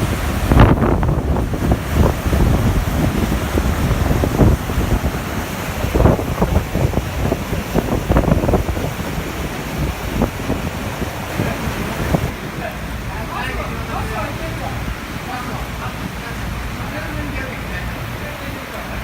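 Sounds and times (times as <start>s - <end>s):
seawater rushing and splashing: 0.0s - 19.0s
strong wind buffeting microphone: 0.0s - 19.0s.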